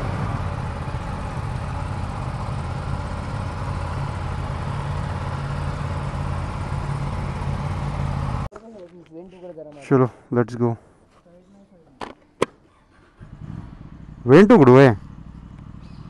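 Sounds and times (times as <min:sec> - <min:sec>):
motorcycle engines idling: 0:00.0 - 0:10.0, 0:12.6 - 0:16.0.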